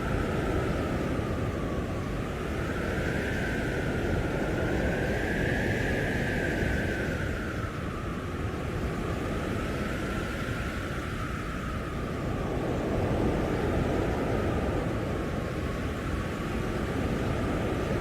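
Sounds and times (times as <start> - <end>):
blizzard wind howling: 0.0 - 18.0.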